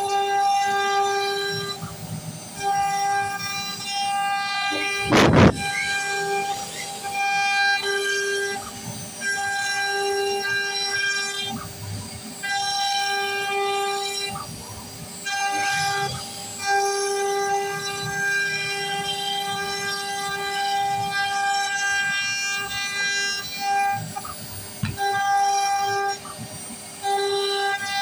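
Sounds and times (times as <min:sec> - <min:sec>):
cnc router spindle whine: 0:00.0 - 0:28.0.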